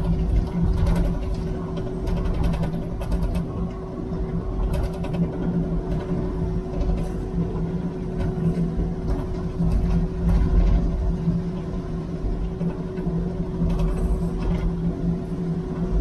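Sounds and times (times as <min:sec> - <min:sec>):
faint rattles and clicks: 0:00.0 - 0:14.8
diesel engine running: 0:00.0 - 0:16.0.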